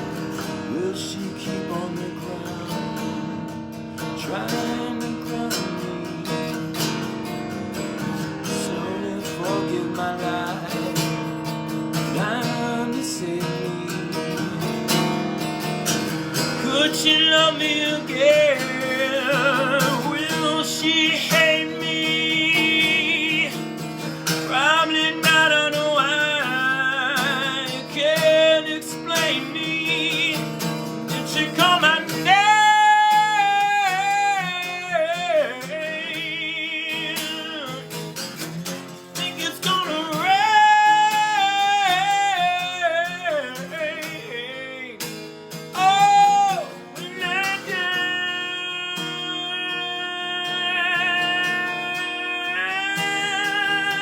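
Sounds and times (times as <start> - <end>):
acoustic guitar: 0.0 - 54.0
man singing with vibrato: 0.0 - 54.0.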